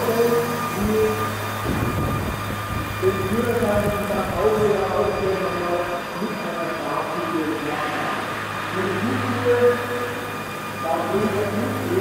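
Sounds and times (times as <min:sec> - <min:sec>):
model helicopter rotors humming: 0:00.0 - 0:12.0.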